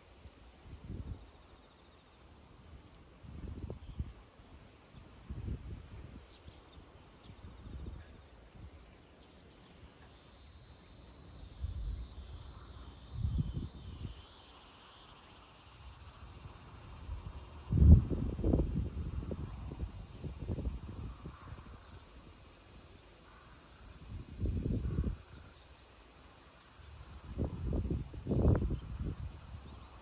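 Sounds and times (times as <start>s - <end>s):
insect chirping: 0.0s - 30.0s.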